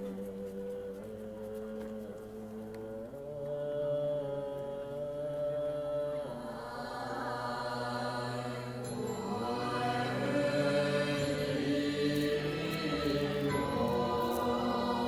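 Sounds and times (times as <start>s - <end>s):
group chanting in long held notes: 2.8s - 15.0s.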